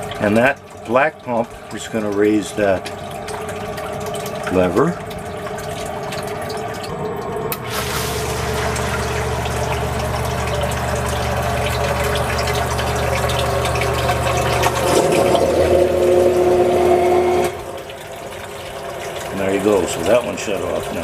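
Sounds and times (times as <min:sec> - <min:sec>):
sump pump running: 0:00.0 - 0:21.0
water splashing and gurgling: 0:00.0 - 0:21.0.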